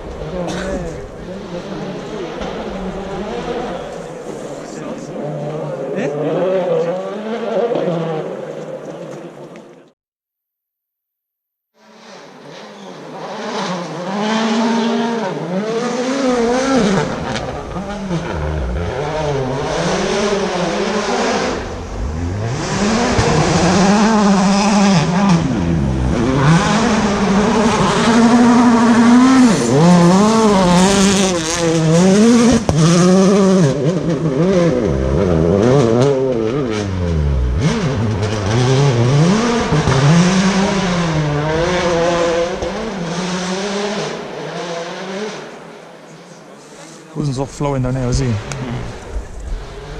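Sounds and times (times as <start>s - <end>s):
rally car engine revving: 0.0s - 9.5s, 11.8s - 49.9s.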